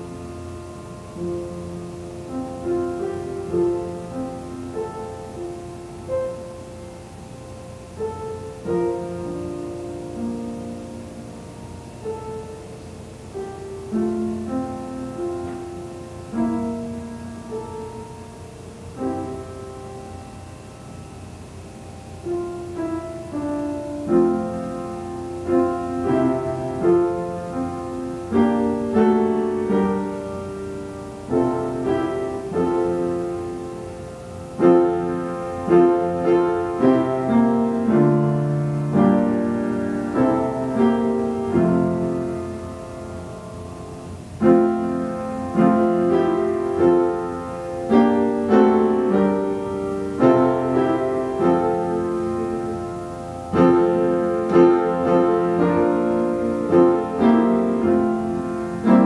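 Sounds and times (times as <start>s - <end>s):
solo piano playing: 0.0s - 59.0s.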